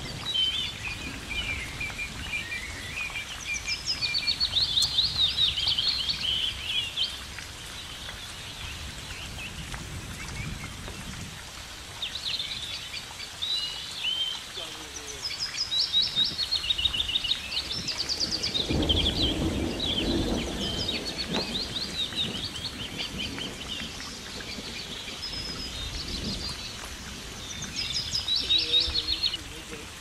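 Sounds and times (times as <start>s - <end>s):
songbirds chirping and trilling: 0.0s - 30.0s.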